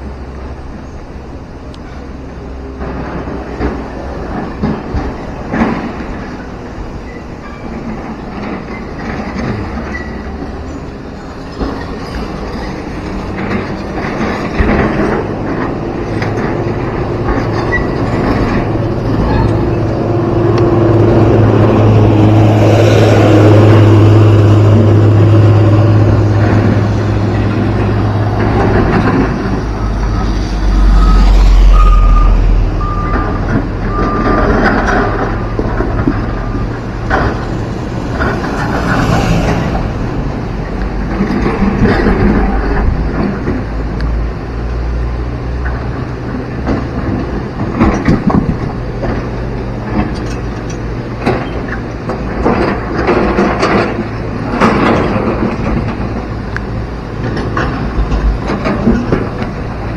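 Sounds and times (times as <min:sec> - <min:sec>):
diesel truck passing: 0:00.0 - 0:59.9
excavator diesel engines droning: 0:00.0 - 0:59.9.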